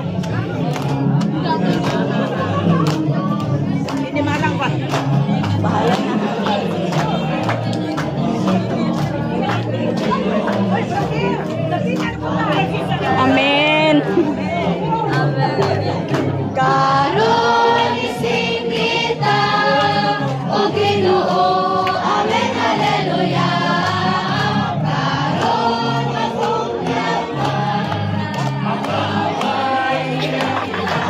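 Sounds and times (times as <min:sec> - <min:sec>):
choir singing gospel: 0:00.0 - 0:31.0
steady bass line: 0:00.0 - 0:31.0.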